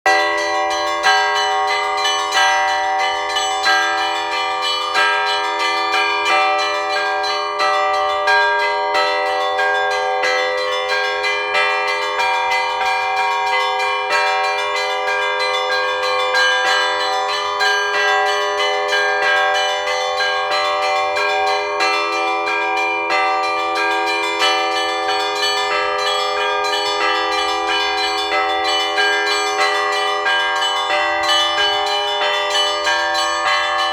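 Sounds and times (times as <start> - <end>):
church bells pealing: 0.0 - 33.9.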